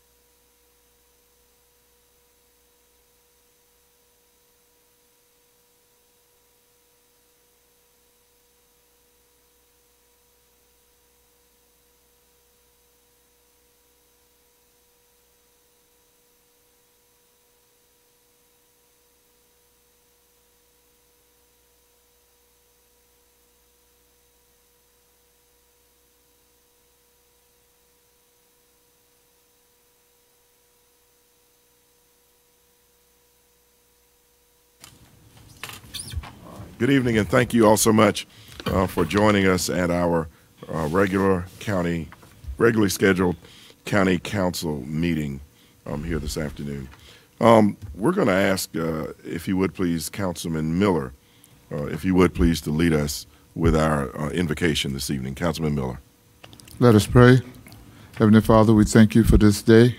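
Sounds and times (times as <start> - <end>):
faint electrical hum: 0.0 - 59.9.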